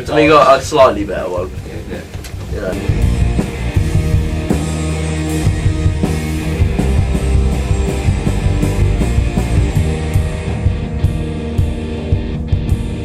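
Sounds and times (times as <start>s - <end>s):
bass guitar: 0.0s - 13.0s
distorted electric guitar: 0.0s - 13.0s
drum kit with cymbals: 0.0s - 13.0s.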